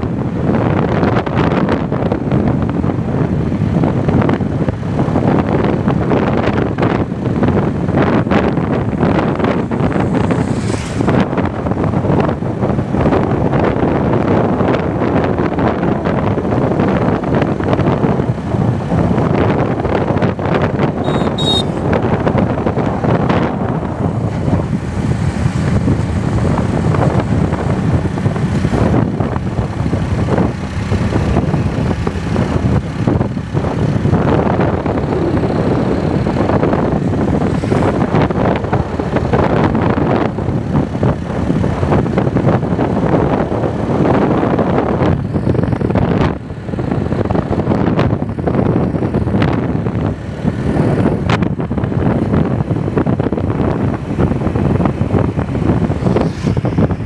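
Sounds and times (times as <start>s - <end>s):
vehicle running on road: 0.0s - 57.0s
wind buffeting microphone: 0.0s - 57.0s.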